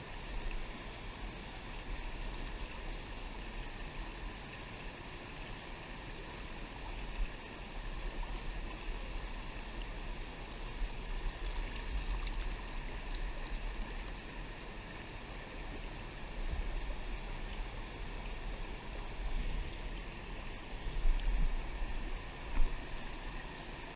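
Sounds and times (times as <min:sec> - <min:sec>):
river water rushing over rocks: 0:00.0 - 0:23.9.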